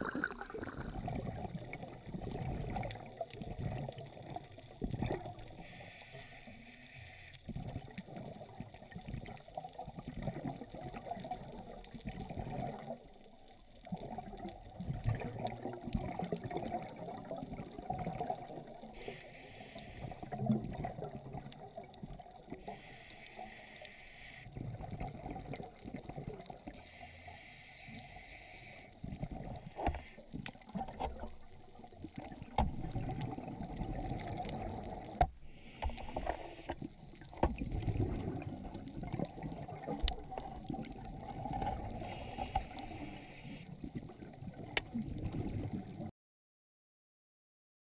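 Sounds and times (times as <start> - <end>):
bubbly hissing of exhaled breath: 0.0 - 13.2, 13.8 - 46.1
muffled underwater rush: 0.0 - 46.1.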